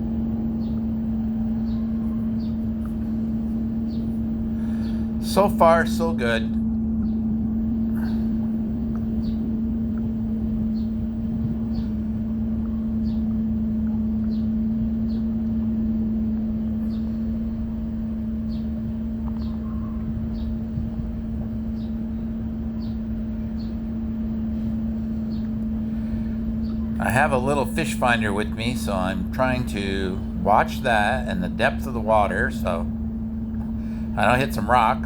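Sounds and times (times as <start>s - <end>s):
electric trolling motor humming: 0.0s - 35.0s.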